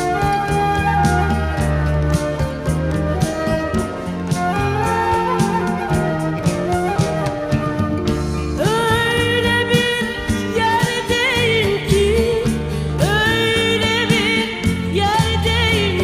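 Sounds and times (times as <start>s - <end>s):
song with ornamented sung melody: 0.0s - 16.0s.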